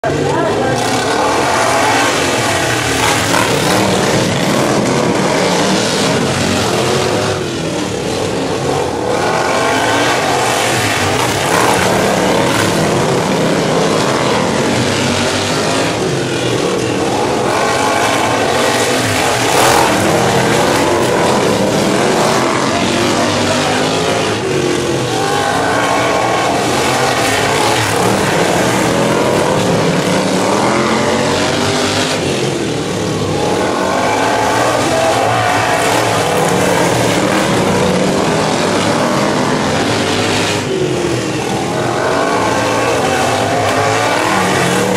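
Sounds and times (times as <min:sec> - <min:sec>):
racing lawn mower engines: 0:00.0 - 0:44.9.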